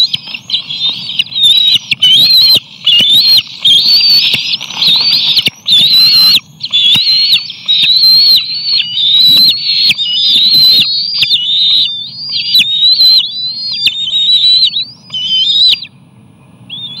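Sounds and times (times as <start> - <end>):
eaglets shrill begging calls: 0.0 - 16.0, 16.7 - 17.0.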